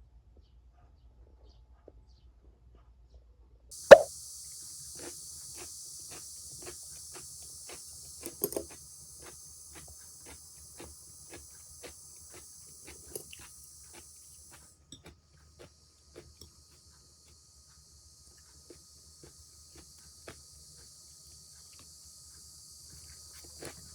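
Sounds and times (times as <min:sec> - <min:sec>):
cicada drone: 0:03.7 - 0:23.9.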